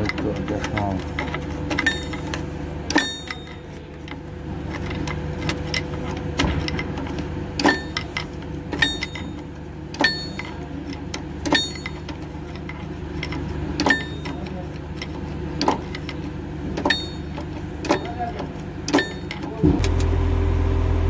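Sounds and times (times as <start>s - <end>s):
wrench clinking on metal: 0.0s - 5.9s, 7.6s - 16.2s, 16.8s - 19.6s
diesel engine running: 0.0s - 21.0s.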